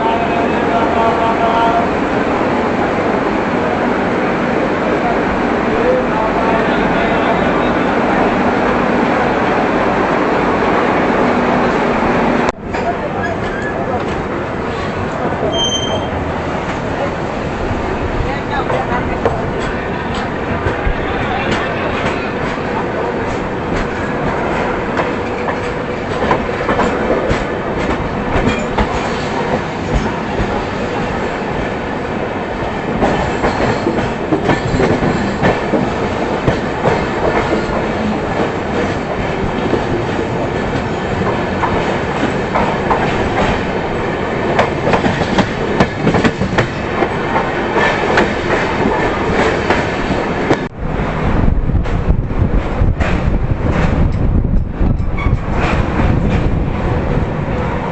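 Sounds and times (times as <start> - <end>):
train rumbling: 0.0 - 57.9.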